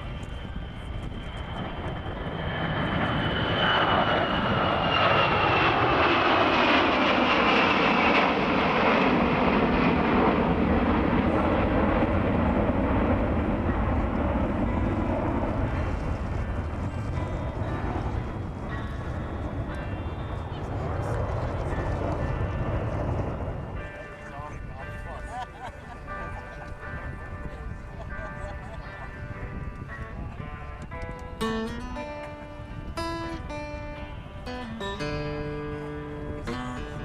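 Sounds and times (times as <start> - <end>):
aircraft flying past: 0.0 - 37.0
high engine whine: 0.0 - 37.0.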